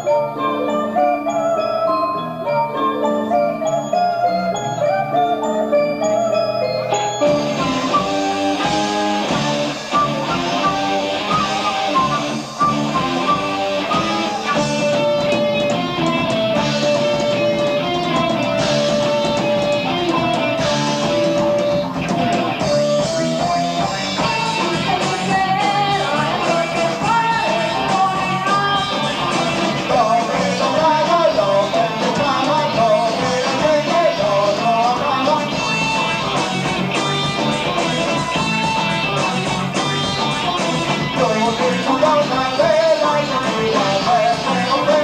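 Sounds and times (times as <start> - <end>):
electric guitar lead: 0.0 - 45.0
live rock band: 0.0 - 45.0.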